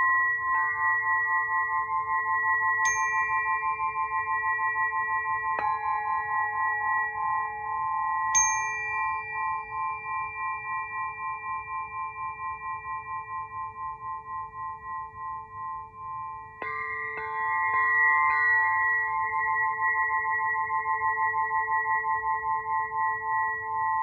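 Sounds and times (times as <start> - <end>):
crystal singing pyramid ringing: 0.0 - 24.0.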